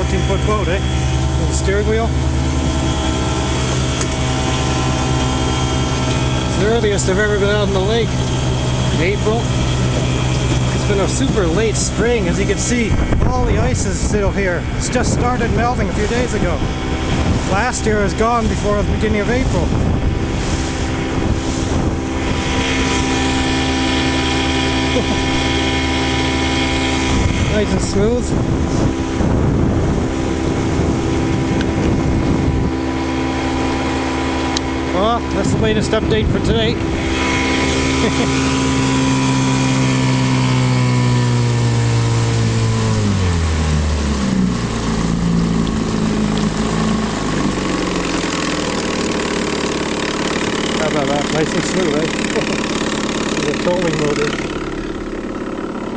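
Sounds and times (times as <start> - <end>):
outboard motor running steadily: 0.0 - 55.9
water wash: 0.0 - 55.9.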